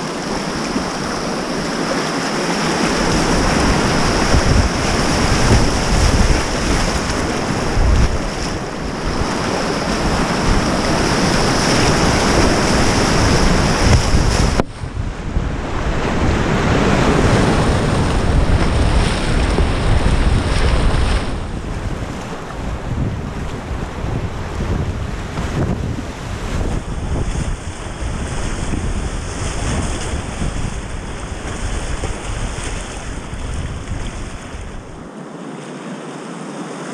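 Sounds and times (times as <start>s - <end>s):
water washing over kayak deck: 0.0s - 35.1s
wind on the microphone: 0.0s - 35.1s
rapids rushing and splashing: 0.0s - 36.9s.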